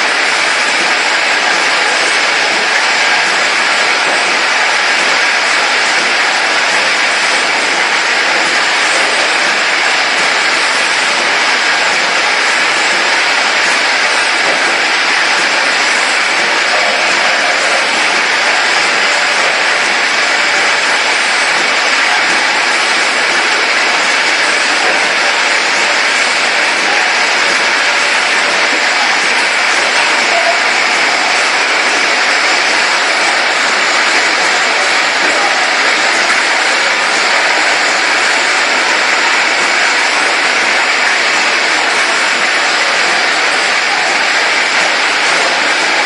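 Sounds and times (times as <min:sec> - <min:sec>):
bottling machine din: 0:00.0 - 0:46.0.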